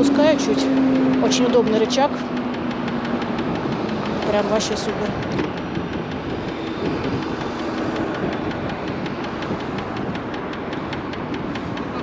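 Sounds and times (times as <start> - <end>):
electric scooter riding: 0.0 - 12.0
knocking tick from scooter wheel: 0.0 - 12.0
road and wind noise: 0.0 - 12.0.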